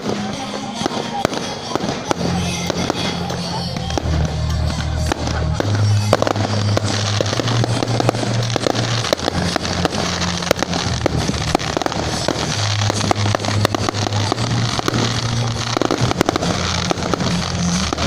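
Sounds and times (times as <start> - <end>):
crackling and popping: 2.9 - 18.0.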